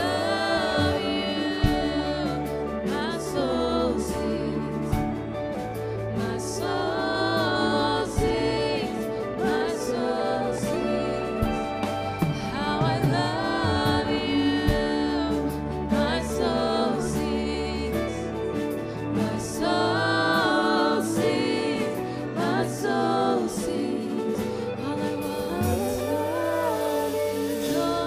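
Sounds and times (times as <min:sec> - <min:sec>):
gospel singing: 0:00.0 - 0:28.0
held bass notes: 0:00.0 - 0:28.0.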